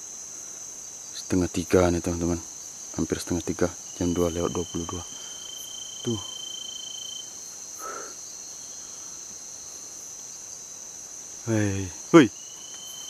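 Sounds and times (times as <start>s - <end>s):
night insects droning: 0.0s - 13.0s
thin steady insect tone: 0.0s - 13.0s.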